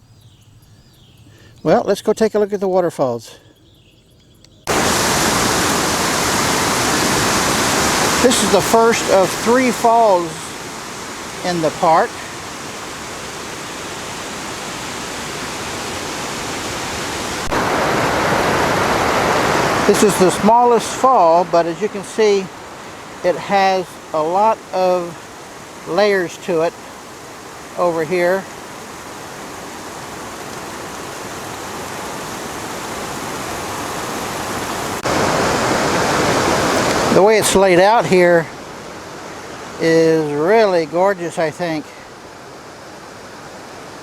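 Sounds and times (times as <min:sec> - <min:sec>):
waterfall rushing: 0:04.7 - 0:44.0.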